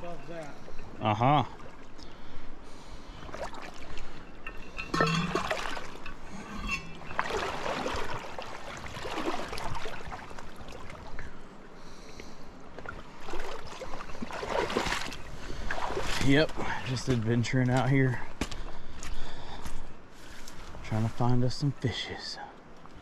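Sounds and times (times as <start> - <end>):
water sloshing with steps: 0.0 - 12.1, 12.7 - 21.0
river current running: 0.0 - 23.0.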